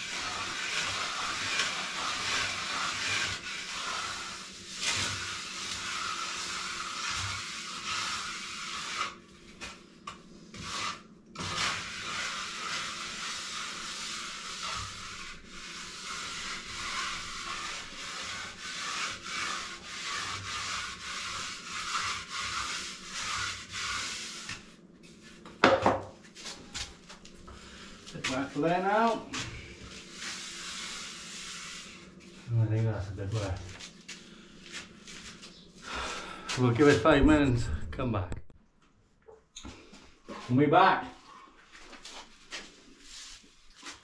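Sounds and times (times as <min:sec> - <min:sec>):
float rubbing over cement render: 0:00.0 - 0:25.5, 0:26.2 - 0:37.2, 0:41.1 - 0:44.0.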